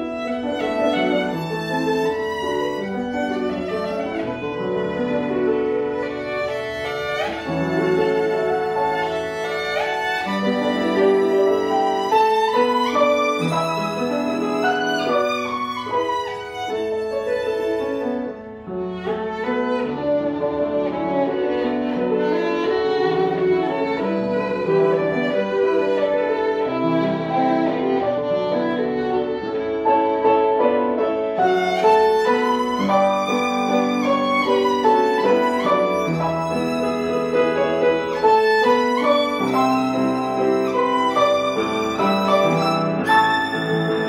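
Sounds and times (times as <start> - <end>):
piano accompaniment: 0.0 - 44.0
solo violin melody: 0.0 - 44.0.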